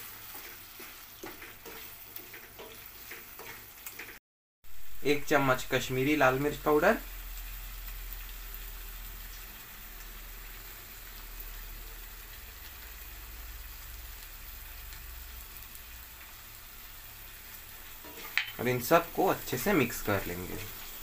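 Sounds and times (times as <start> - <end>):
gravy sizzling in a pan: 0.0 - 21.0.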